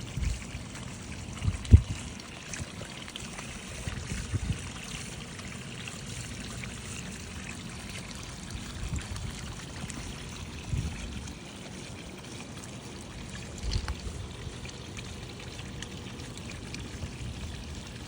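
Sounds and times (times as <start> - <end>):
water pouring into pond: 0.0 - 18.0.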